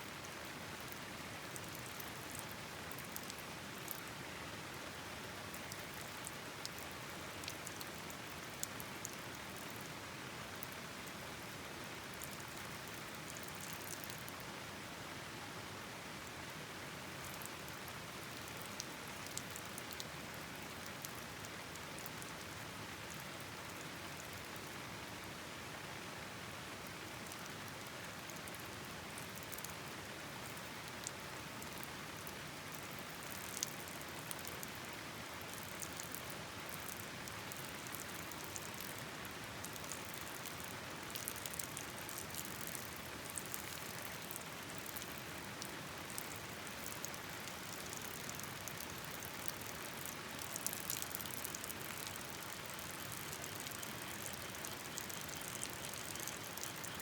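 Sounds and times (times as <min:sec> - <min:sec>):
sharp ticks of raindrops: 0:00.0 - 0:14.6, 0:16.1 - 0:26.0, 0:26.6 - 0:57.0
steady rain: 0:00.0 - 0:57.0.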